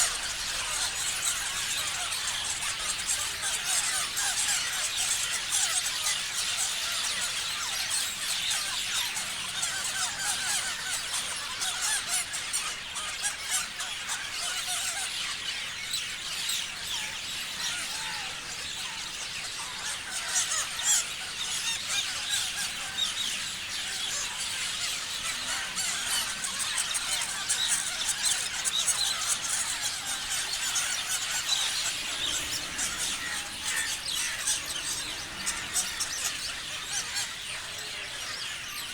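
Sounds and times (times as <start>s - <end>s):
parrots chirping and squealing: 0.0s - 15.4s, 16.3s - 38.9s.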